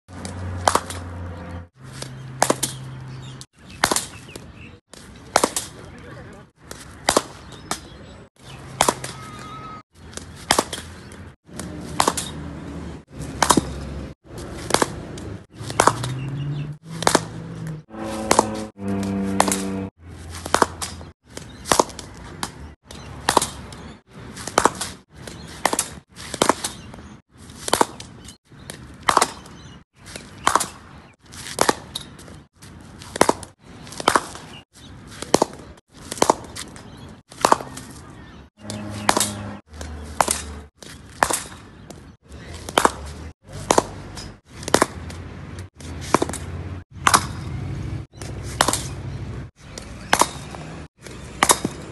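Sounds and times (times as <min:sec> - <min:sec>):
cricket bat striking balls: 0:00.2 - 0:01.2, 0:01.9 - 0:05.8, 0:06.6 - 0:12.5, 0:13.1 - 0:32.4, 0:33.0 - 0:34.6, 0:35.2 - 0:45.1, 0:45.8 - 0:49.1, 0:49.7 - 0:51.9.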